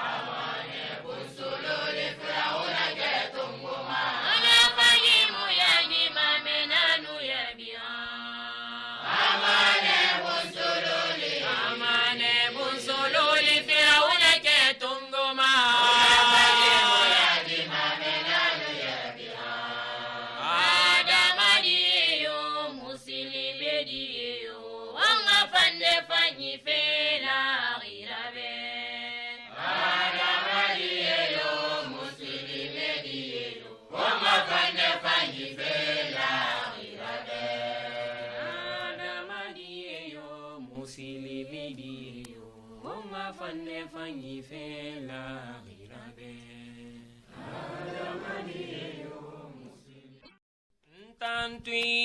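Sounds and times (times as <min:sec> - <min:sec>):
devotional chant singing: 0:00.0 - 0:50.3, 0:50.9 - 0:52.0.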